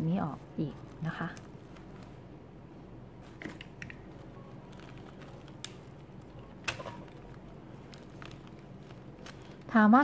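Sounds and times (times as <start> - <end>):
fabric rustling: 0.0 - 10.0.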